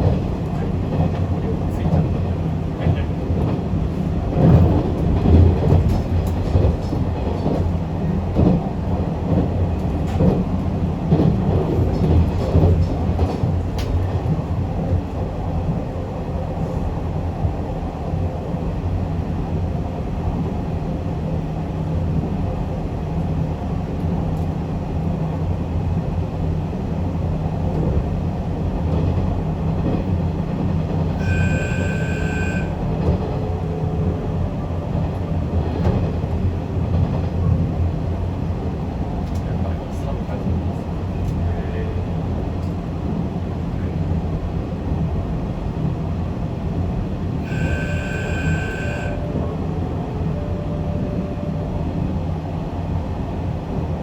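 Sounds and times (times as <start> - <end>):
rail joint clicks and knocks: 0.0 - 15.9, 26.2 - 53.9
train wheels rumbling on rail: 0.0 - 54.0.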